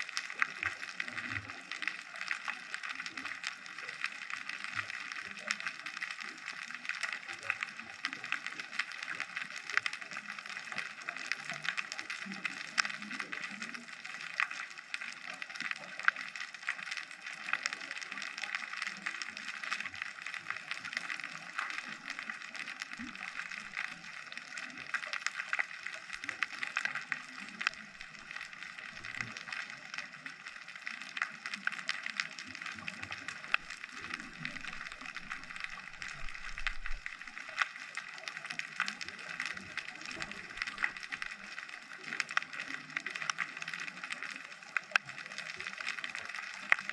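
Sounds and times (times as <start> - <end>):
faint low underwater rumble: 0.0 - 46.9
underwater crackle of tiny clicks: 0.0 - 46.9.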